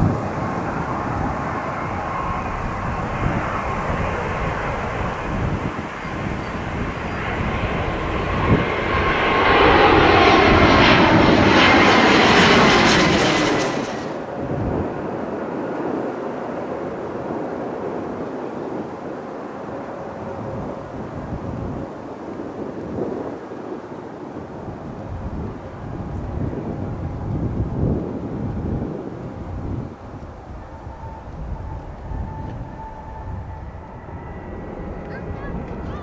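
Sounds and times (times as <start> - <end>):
jet airliner passing overhead: 0.0 - 36.0.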